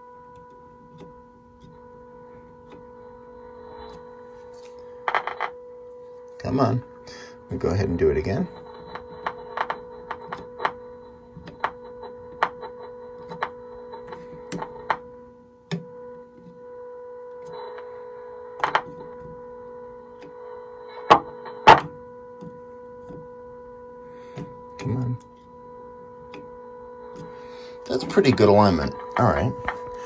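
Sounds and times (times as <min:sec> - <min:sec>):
steady test tone from radio speaker: 0:00.0 - 0:30.0.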